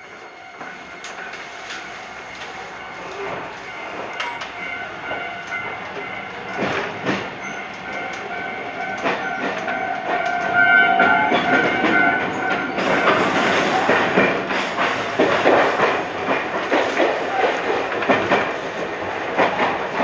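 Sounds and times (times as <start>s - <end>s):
electric train whine: 0.0s - 20.0s
wheels clicking over rail joints: 0.6s - 20.0s.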